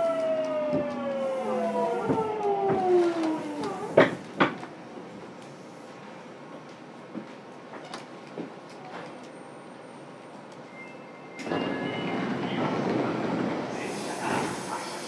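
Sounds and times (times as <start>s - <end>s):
low hum inside train car: 0.0s - 15.0s.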